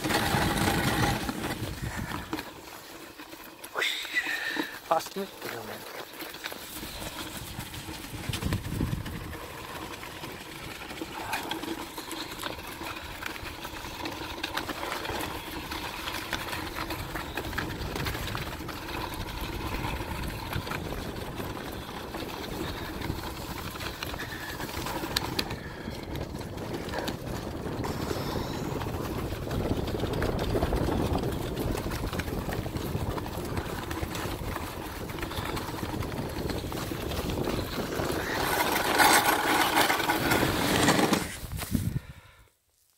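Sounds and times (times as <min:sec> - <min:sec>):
sled runners scraping over snow: 0:00.0 - 0:42.9.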